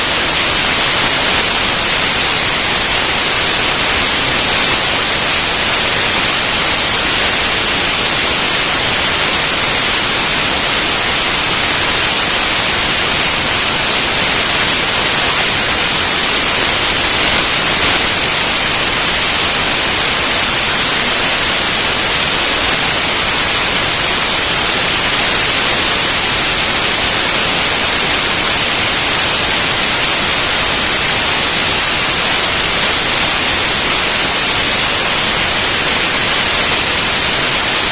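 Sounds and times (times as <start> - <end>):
steady loud hiss: 0.0 - 37.9.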